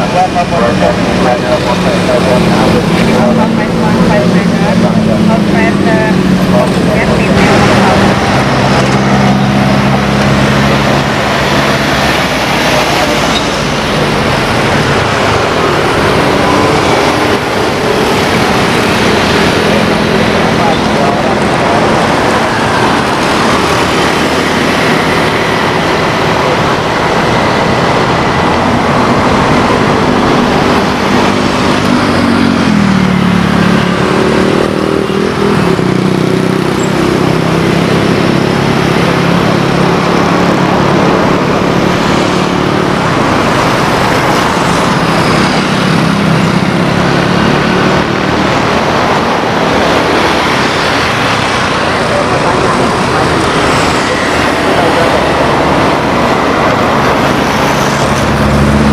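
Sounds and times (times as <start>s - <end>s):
propeller plane droning past: 0.0s - 58.9s
steady rushing noise: 0.0s - 58.9s.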